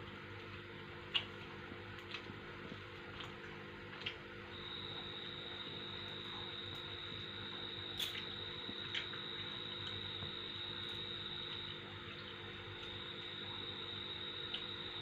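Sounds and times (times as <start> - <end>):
aquarium water bubbling: 0.0 - 15.0
low steady hum: 0.0 - 15.0.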